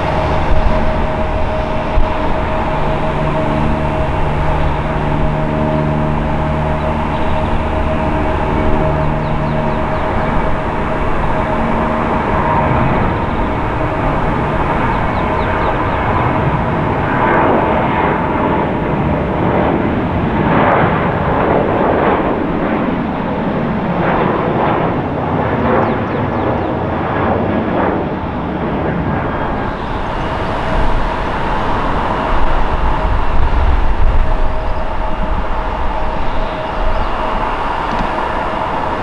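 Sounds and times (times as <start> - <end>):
deep rumble: 0.0 - 39.0
jet engines roaring at takeoff: 0.0 - 39.0.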